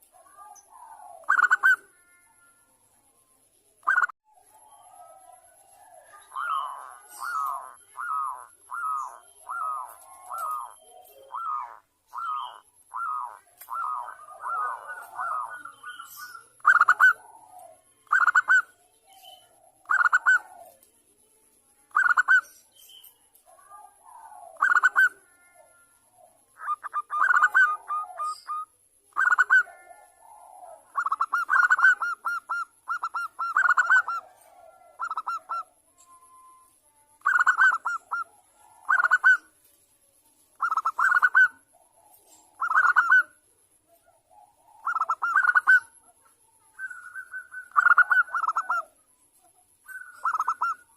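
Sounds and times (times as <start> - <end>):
dove cooing: 0.0 - 2.5, 3.8 - 20.9, 23.4 - 36.6, 37.2 - 39.6, 40.5 - 49.0, 49.8 - 50.9.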